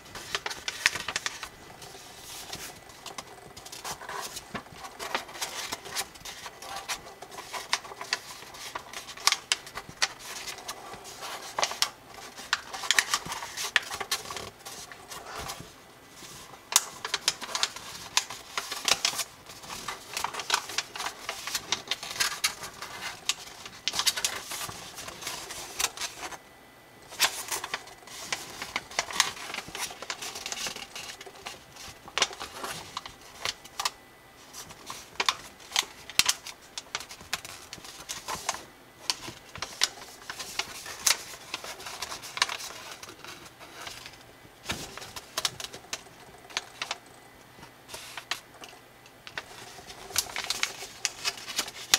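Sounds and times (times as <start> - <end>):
paper crinkling and rustling: 0.0 - 26.4, 27.1 - 51.9.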